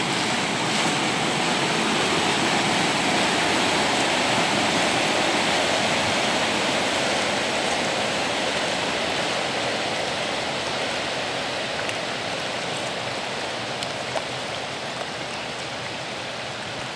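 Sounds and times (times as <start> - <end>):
ship propeller wash churning water: 0.0 - 16.9.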